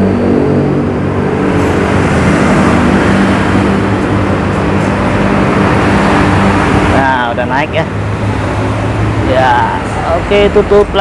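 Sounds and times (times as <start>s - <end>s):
loud engine running: 0.0s - 11.0s.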